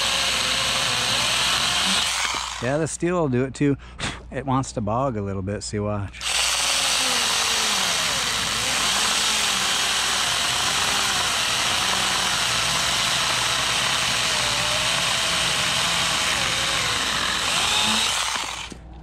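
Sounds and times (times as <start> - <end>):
chainsaw cutting log: 0.0 - 2.6, 6.2 - 18.8.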